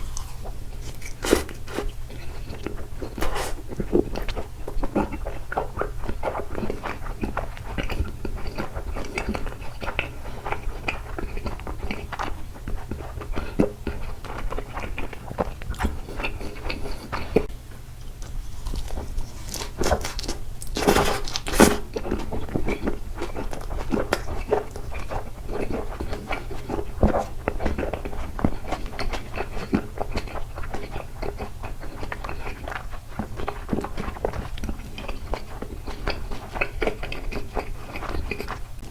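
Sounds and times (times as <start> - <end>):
wet chewing and mouth clicks: 0.0 - 17.5, 18.2 - 38.9.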